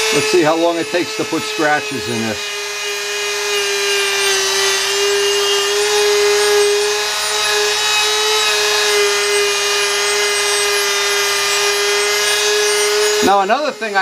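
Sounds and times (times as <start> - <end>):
rotary tool motor whine: 0.0 - 14.0.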